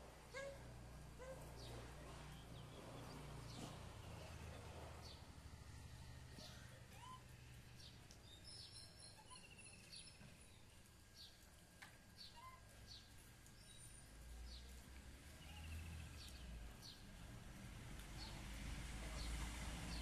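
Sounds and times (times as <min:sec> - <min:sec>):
faint birds chirping: 0:00.3 - 0:17.4.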